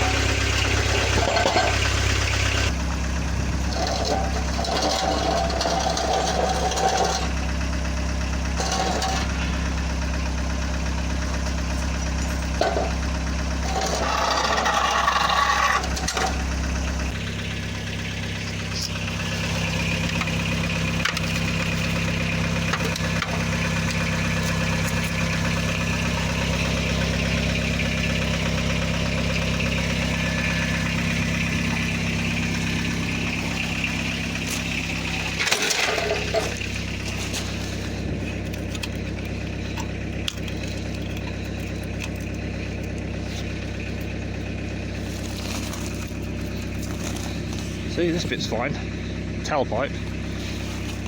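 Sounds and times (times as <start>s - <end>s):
engine idling with leaking exhaust: 0.0s - 51.0s.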